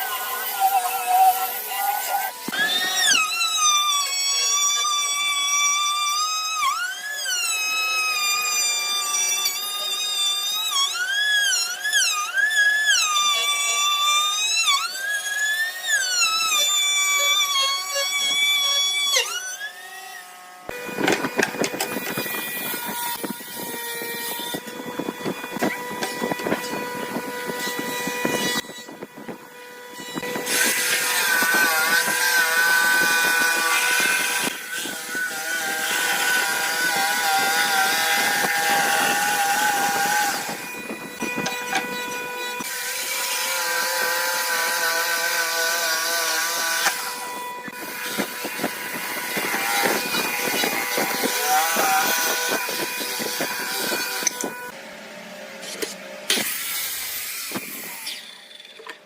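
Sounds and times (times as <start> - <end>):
power tool whining through wood: 0.0 - 59.0.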